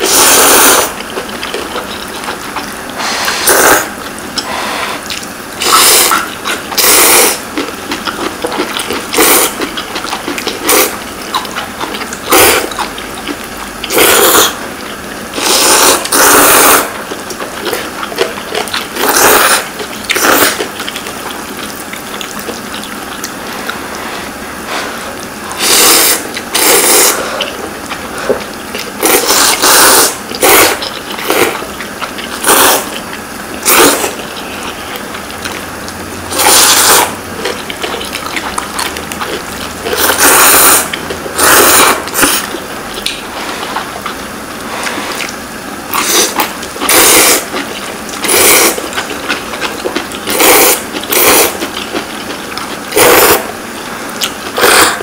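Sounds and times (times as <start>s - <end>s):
people slurping noodles: 0.0s - 55.0s.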